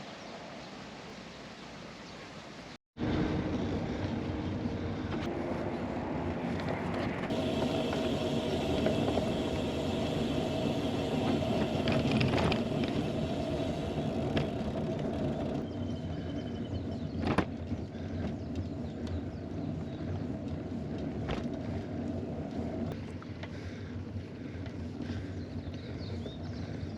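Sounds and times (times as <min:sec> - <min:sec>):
bicycle road noise: 0:03.0 - 0:26.9.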